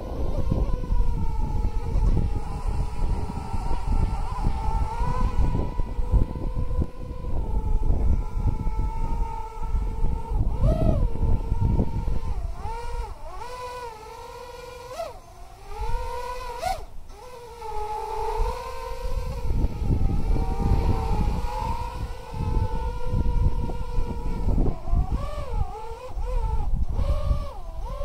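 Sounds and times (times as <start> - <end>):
gusty wind rumble on microphone: 0.0 - 13.9, 14.5 - 28.0
quadcopter motors whining: 0.0 - 28.0.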